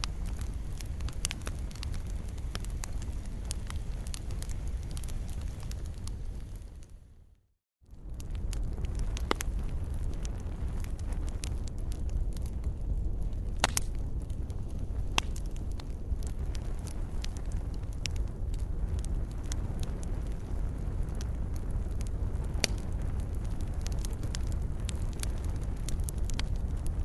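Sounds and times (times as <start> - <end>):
steady low rumble: 0.0 - 6.4, 7.9 - 27.0
sharp fire pops: 0.0 - 7.0, 7.9 - 27.0
fireplace fire crackling: 0.0 - 7.3, 7.9 - 27.0.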